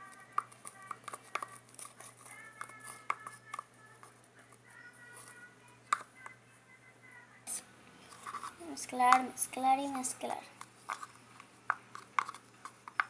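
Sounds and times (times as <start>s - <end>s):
stick stirring thick slime: 0.0s - 5.4s, 7.5s - 13.0s
stick tapping plastic container: 0.0s - 6.4s, 7.5s - 9.3s, 9.9s - 13.0s.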